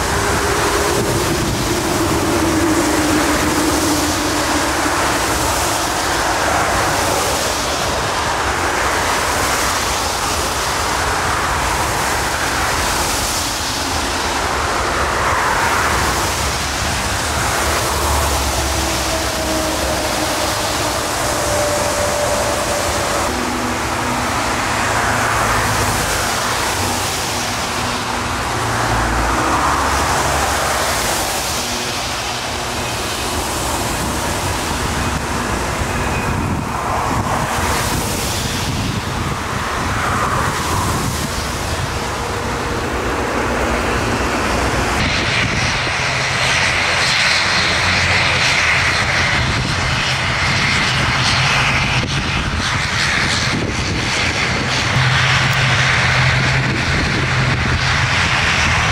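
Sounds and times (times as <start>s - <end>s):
jet engines roaring: 0.0s - 58.9s
turboprop engines humming: 0.0s - 58.9s.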